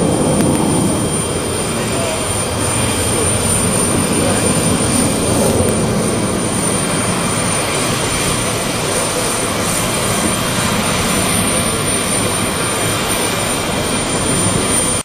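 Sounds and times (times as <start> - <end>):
jet airliner engines in flight: 0.0 - 15.0.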